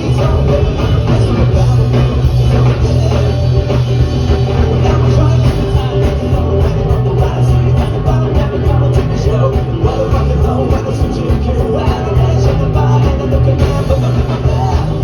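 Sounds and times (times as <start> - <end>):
live rock and roll band: 0.0 - 15.0
steady bass line: 0.0 - 15.0.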